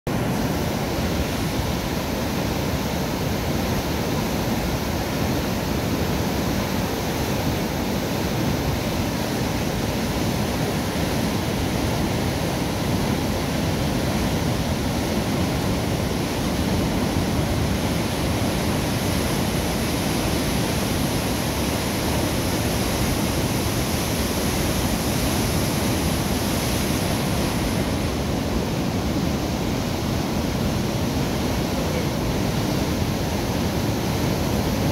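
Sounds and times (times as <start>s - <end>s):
water rushing through sluices: 0.1s - 34.9s.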